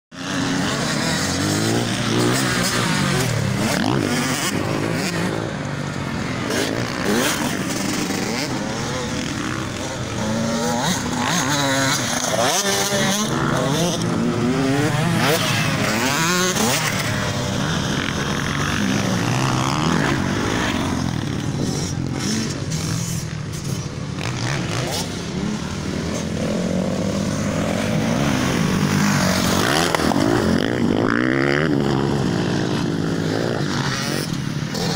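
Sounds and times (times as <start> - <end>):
dirt bike engines revving: 0.2 - 34.9.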